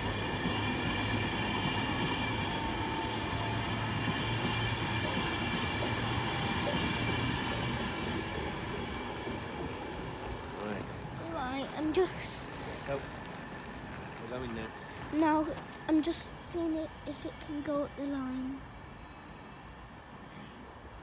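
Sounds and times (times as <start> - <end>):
train rumbling with whine: 0.0 - 21.0.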